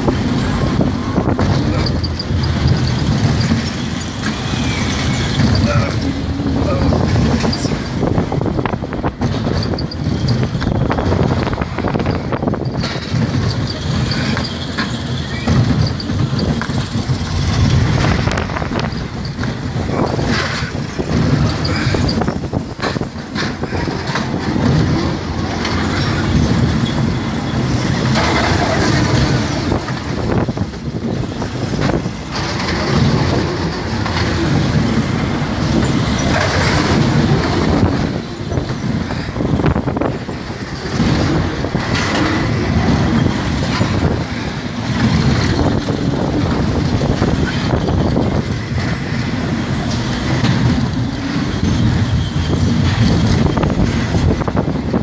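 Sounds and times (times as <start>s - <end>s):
knocks and rattles: 0.0s - 55.0s
roller coaster wheels rumbling: 0.0s - 55.0s.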